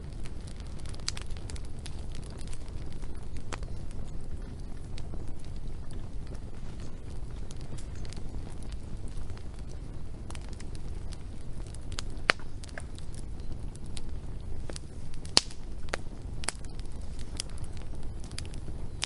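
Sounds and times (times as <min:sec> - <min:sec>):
sharp pops of fire: 0:00.0 - 0:19.0
wood fire crackling: 0:00.0 - 0:19.0.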